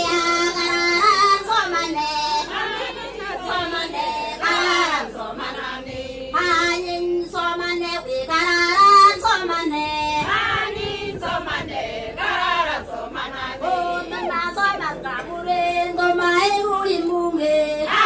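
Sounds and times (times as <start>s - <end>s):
women singing together: 0.0s - 18.0s.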